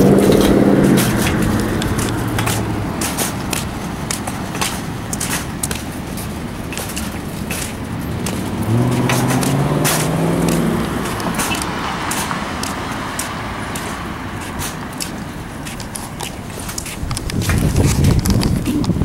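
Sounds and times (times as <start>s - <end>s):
passing vehicle engine hum: 0.0s - 19.0s
scattered clicks: 0.0s - 19.0s
steady traffic noise: 0.0s - 19.0s.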